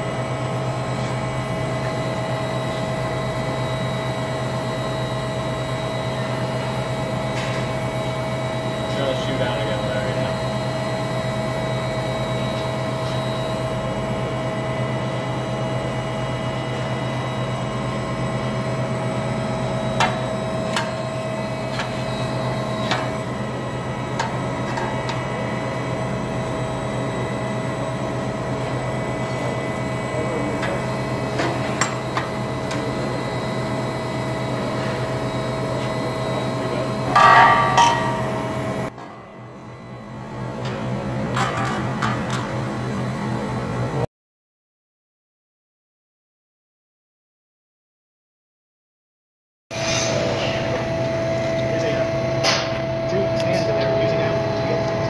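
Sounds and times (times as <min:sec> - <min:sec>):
bending machine drone: 0:00.0 - 0:44.0, 0:49.7 - 0:55.0.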